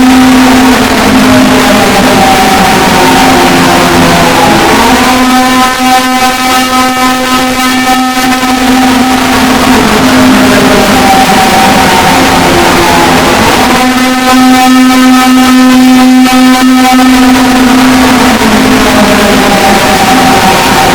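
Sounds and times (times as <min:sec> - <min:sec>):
emergency alert alarm tone: 0:00.0 - 0:20.9
shorter tones at changing pitches: 0:00.0 - 0:20.9.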